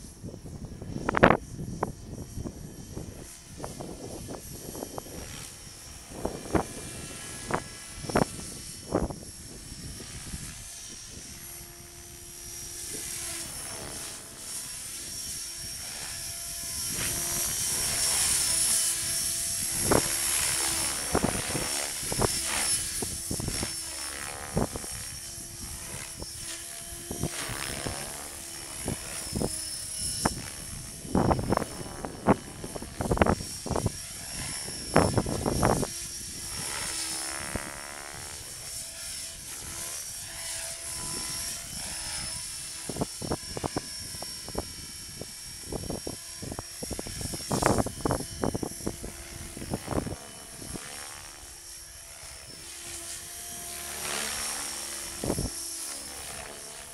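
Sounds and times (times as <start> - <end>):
rc helicopter rotor whine: 0.0 - 56.9.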